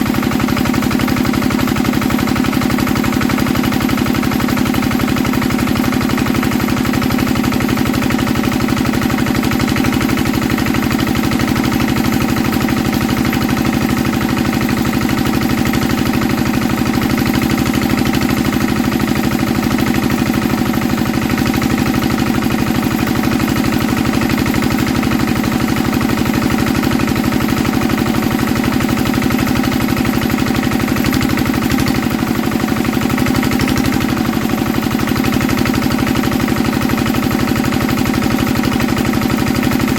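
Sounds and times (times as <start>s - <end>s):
stationary diesel engine running: 0.0s - 39.9s.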